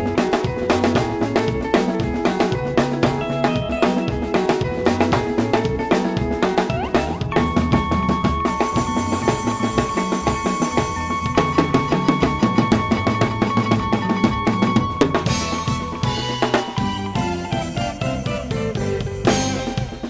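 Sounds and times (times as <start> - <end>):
drum kit playing fast groove: 0.0 - 20.0.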